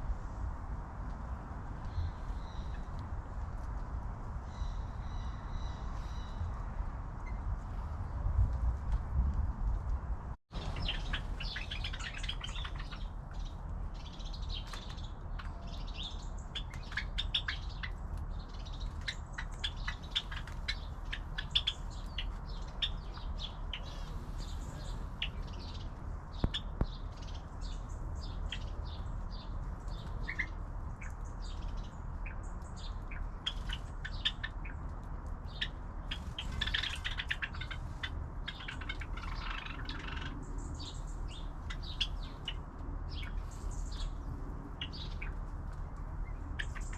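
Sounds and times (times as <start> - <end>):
small birds chirping: 1.7 - 8.3, 10.5 - 46.9.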